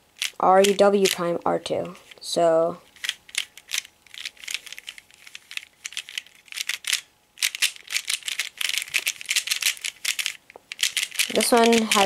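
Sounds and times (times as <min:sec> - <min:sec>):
puzzle cube clicking: 0:00.2 - 0:02.2, 0:03.0 - 0:12.0.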